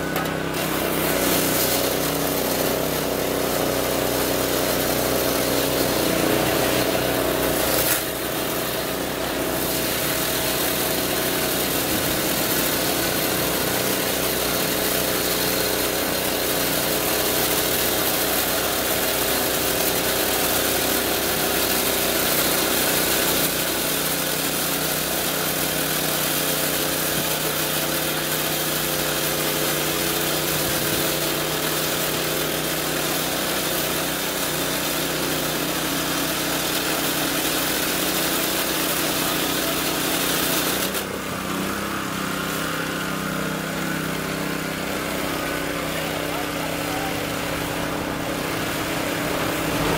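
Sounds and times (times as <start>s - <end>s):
engine running: 0.0s - 33.1s, 38.4s - 49.9s.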